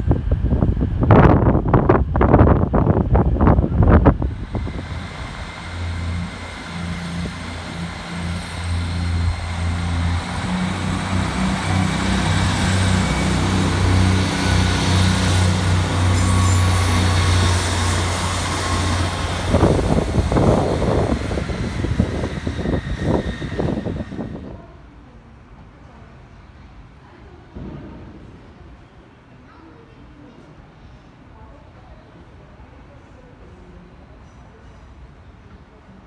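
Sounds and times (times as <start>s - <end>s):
diesel train engine drone: 0.0s - 29.4s
rushing rail noise: 0.0s - 36.0s.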